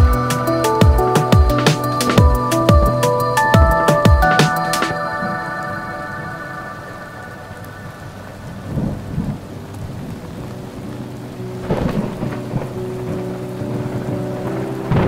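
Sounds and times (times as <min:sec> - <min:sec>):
steady rain: 0:00.0 - 0:15.0
thunder rolling: 0:00.0 - 0:15.0.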